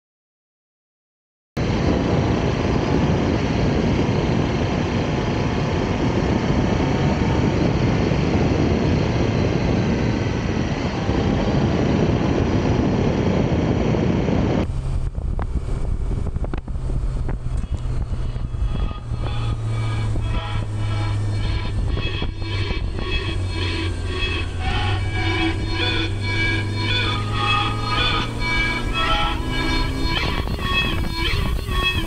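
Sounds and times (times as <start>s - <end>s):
low hum: 1.6s - 32.0s
low vehicle rumble: 1.6s - 32.0s
vehicle wind noise: 1.6s - 32.0s.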